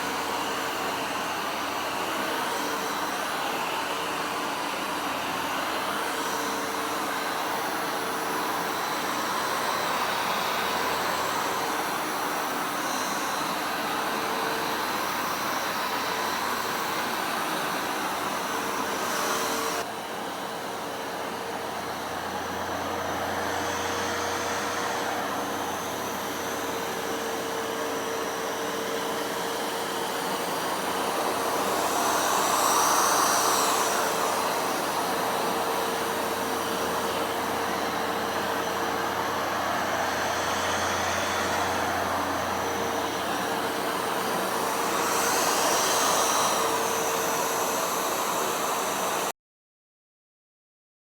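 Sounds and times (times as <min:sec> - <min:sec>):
vacuum cleaner motor humming: 0:00.0 - 0:49.3.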